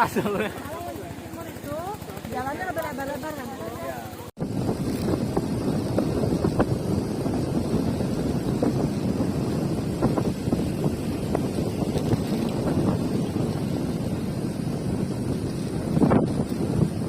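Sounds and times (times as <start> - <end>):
wind buffeting microphone: 3.3 - 17.0.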